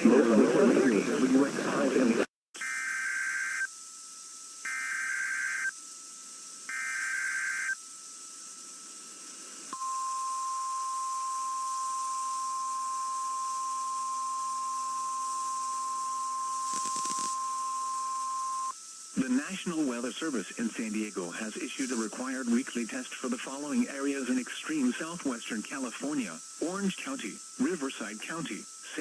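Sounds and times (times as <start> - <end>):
radio hiss: 0.0 - 3.7, 6.6 - 29.0
steady warning alarm tone: 2.6 - 8.8, 9.7 - 29.0
buzzy screeching data bursts: 2.6 - 29.0
crackle of static: 4.6 - 29.0.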